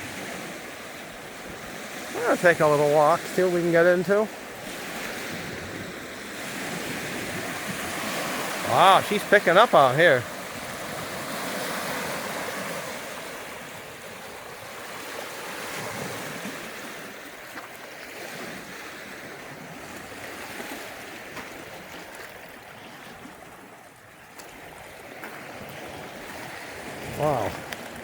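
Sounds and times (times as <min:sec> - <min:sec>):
lake waves washing onto shore: 0:00.0 - 0:28.0.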